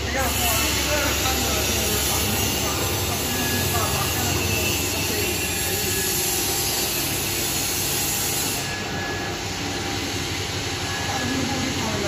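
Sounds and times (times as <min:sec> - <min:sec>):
gear motor and chain drive running: 0:00.0 - 0:12.0.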